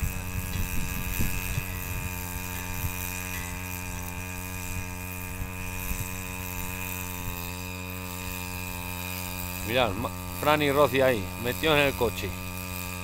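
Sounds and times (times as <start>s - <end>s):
engine running steadily: 0.0s - 13.0s
thin high whine: 0.0s - 13.0s.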